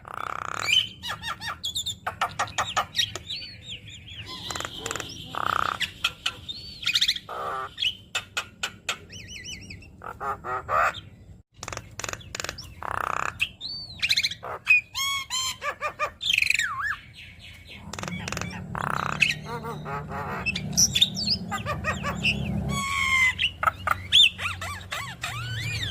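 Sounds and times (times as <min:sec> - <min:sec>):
bird singing chattering song: 0:00.0 - 0:25.9.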